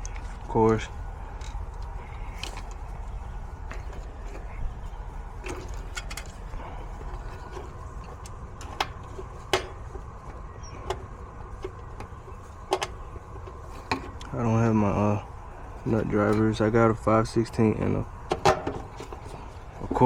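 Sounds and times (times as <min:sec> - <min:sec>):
low rumble: 0:00.0 - 0:18.2.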